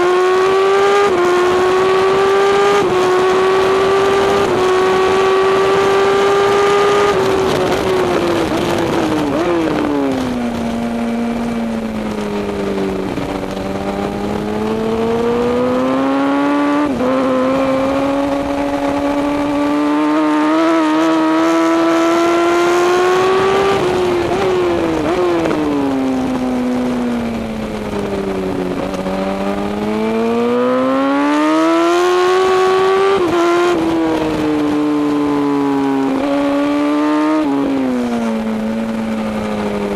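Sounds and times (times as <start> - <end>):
motorcycle engine accelerating: 0.0 - 39.9
wind rush: 0.0 - 39.9.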